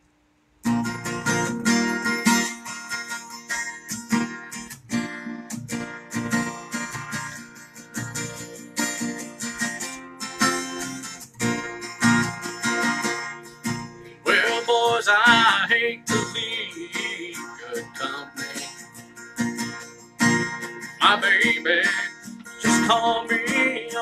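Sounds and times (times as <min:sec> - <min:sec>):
acoustic guitar strumming chords: 0:00.6 - 0:24.0.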